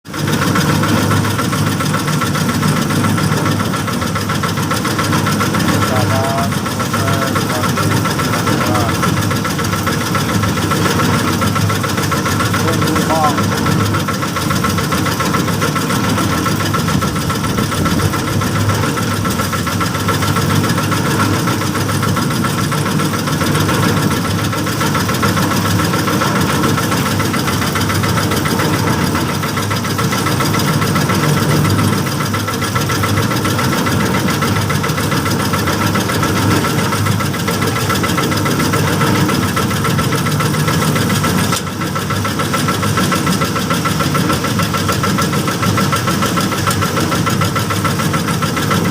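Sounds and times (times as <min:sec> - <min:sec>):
small engine mechanical drone: 0:00.1 - 0:48.9
steady high whine: 0:00.1 - 0:48.9.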